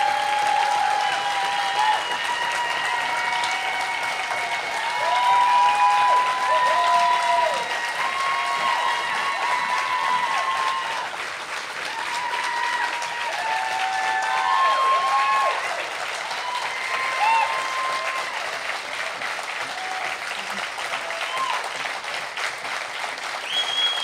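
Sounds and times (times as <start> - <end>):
long whoops: 0.0 - 11.1, 11.9 - 18.6, 19.6 - 21.7
audience applauding: 0.0 - 24.0.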